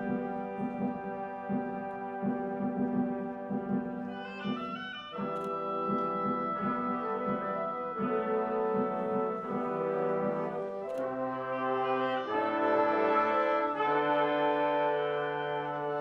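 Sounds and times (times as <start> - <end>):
orchestra playing slow music: 0.0 - 16.0.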